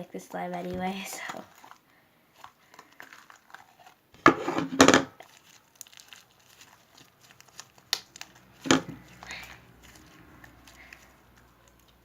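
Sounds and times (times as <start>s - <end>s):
slime container handling: 0.5s - 12.0s.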